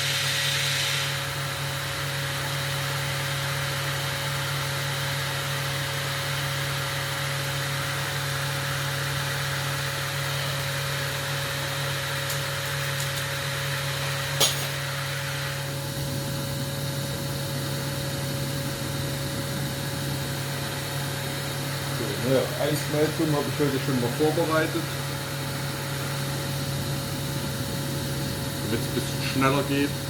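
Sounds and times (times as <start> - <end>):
gas burner hissing: 0.0 - 30.0
workshop machine humming: 0.0 - 30.0.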